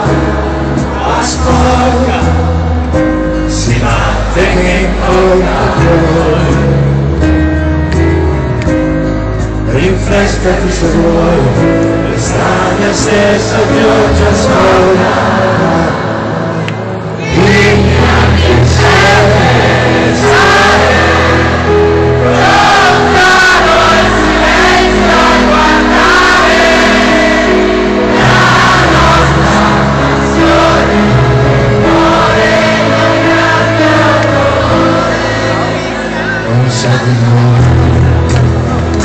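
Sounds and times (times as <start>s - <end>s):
crowd singing together: 0.0s - 8.7s, 9.7s - 39.0s
guitars: 0.0s - 39.0s
piano: 0.0s - 39.0s
rock band playing a ballad: 0.0s - 39.0s
sustained bass notes: 0.0s - 39.0s.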